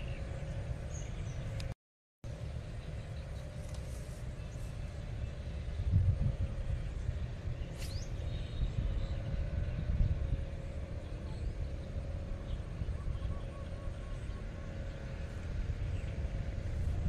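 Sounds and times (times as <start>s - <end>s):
bird chirp: 0.0s - 1.7s, 2.4s - 5.8s, 6.7s - 16.6s
faint steady hum: 0.0s - 17.0s
wind rumbling on microphone: 2.3s - 17.0s.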